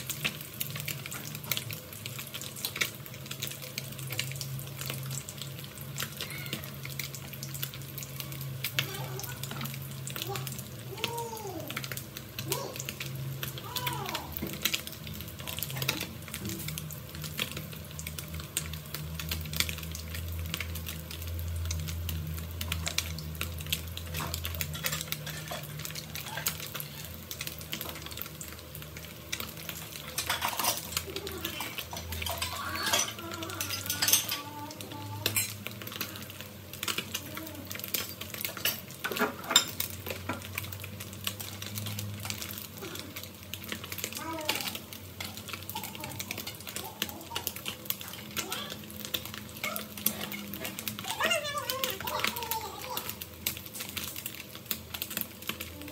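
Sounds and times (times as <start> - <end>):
fish frying in hot oil: 0.0 - 55.9.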